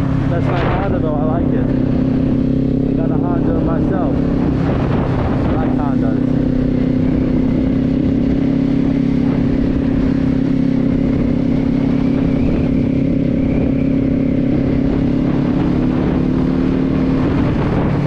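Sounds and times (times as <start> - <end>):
motorcycle engine running: 0.0 - 18.0
wind rumble on microphone: 0.0 - 18.0.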